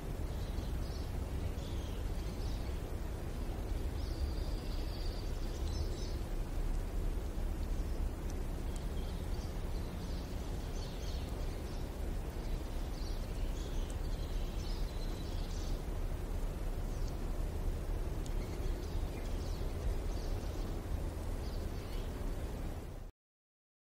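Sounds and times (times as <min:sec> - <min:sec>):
birds chirping: 0:00.0 - 0:23.0
distant road traffic rumble: 0:00.0 - 0:23.1.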